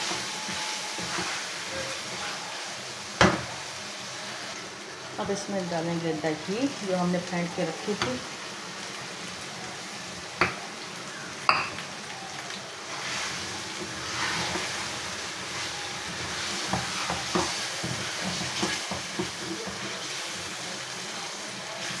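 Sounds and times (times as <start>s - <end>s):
food sizzling in metal pan: 0.0s - 22.0s.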